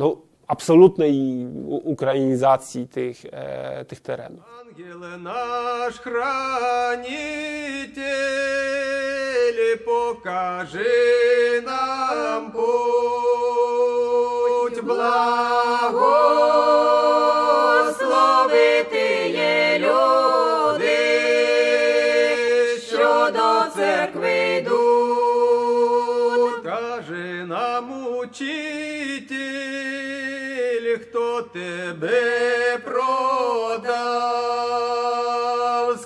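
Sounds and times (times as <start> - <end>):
men singing a religious chant: 4.5 - 36.0.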